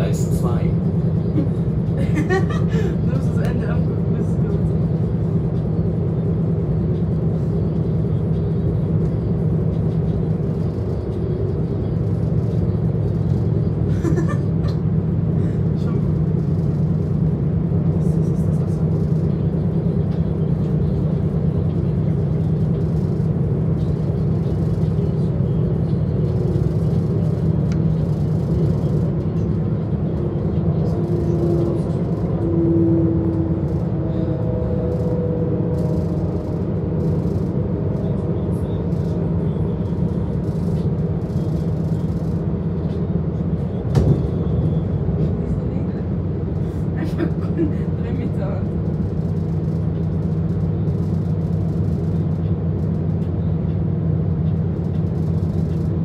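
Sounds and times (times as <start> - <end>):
train interior low rumble: 0.0 - 56.0.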